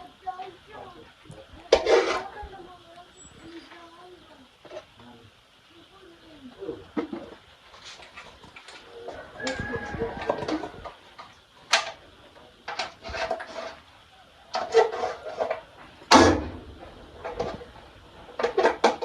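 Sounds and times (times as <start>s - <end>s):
low voices: 0.0s - 8.0s, 8.7s - 16.0s.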